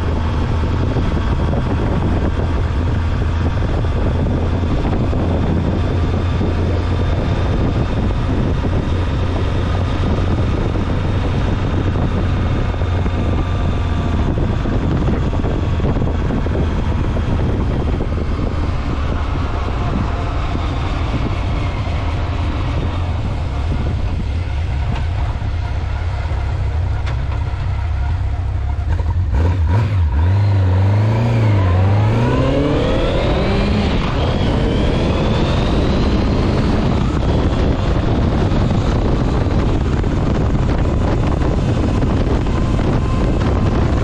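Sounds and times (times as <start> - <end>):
motorcycle engine cruising: 0.0 - 44.0
wind noise on microphone: 0.0 - 44.0.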